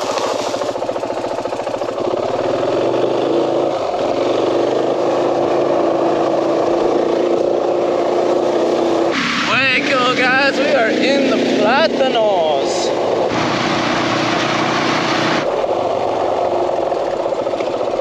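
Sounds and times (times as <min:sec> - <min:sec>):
motorcycle engine idling and pulling away: 0:00.0 - 0:18.0.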